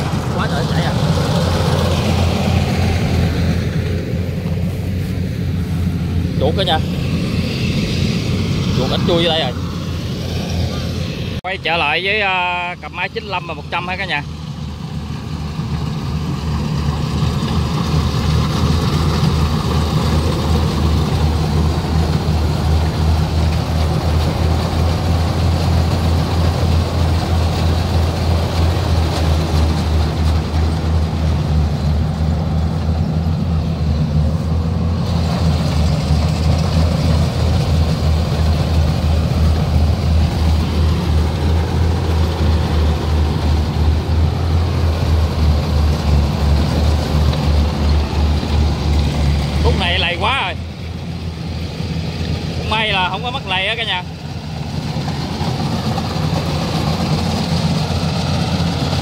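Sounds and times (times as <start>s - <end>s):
combine harvester diesel engine drone: 0.0s - 59.0s.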